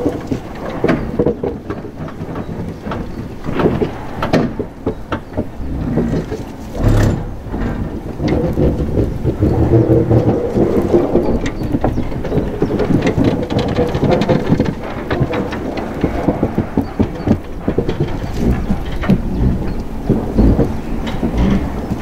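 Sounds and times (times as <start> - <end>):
train wheels clanking on rails: 0.0 - 22.0
wind buffeting microphone: 0.0 - 22.0.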